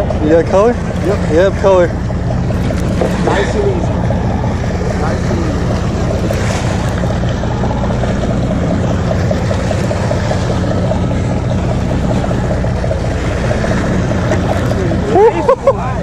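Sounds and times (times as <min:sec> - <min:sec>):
boat engine humming: 0:00.0 - 0:16.0
water noise: 0:00.0 - 0:16.0.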